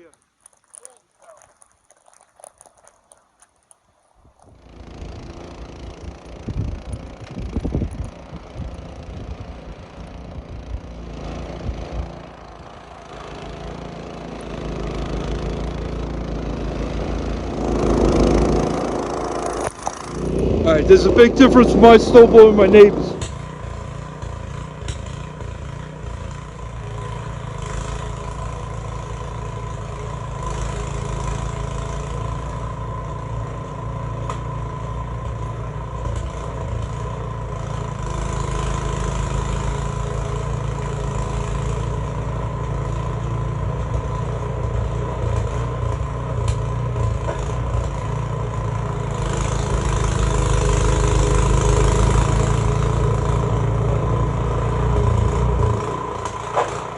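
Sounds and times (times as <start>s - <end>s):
snowblower engine running: 0.0s - 56.9s.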